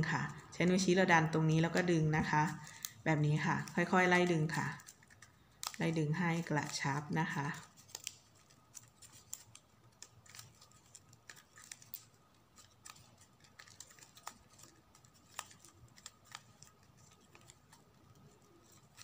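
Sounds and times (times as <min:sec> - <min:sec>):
ribbon ticks and rustles: 0:00.0 - 0:19.0.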